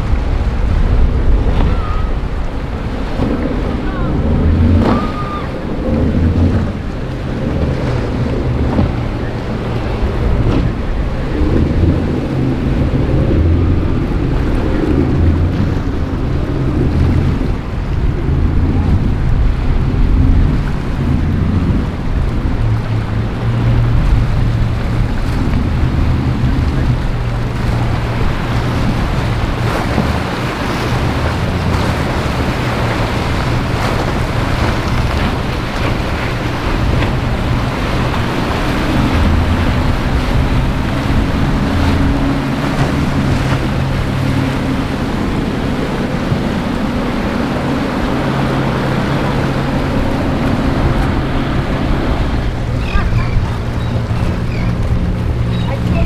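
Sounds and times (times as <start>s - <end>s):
outboard motor drone: 0.0s - 56.0s
waves breaking: 0.0s - 56.0s
wind on microphone: 0.0s - 56.0s.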